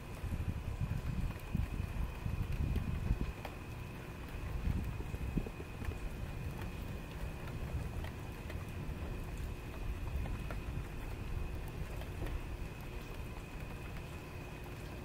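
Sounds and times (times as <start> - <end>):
drops ticking close by: 0.0 - 15.0
heavy rain falling: 0.0 - 15.0
low steady rumble: 0.0 - 15.0.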